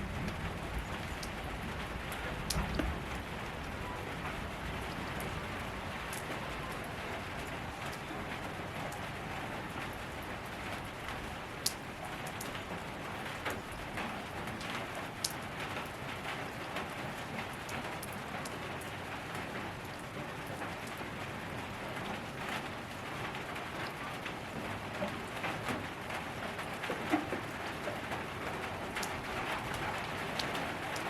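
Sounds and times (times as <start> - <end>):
raindrops ticking: 0.0 - 31.0
steady rain hiss: 0.0 - 31.0.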